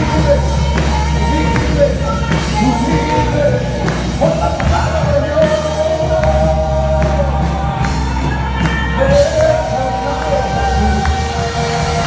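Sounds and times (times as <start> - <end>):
band with bass: 0.0 - 12.0
drum hits: 0.0 - 12.0
voices singing held notes: 0.0 - 12.0.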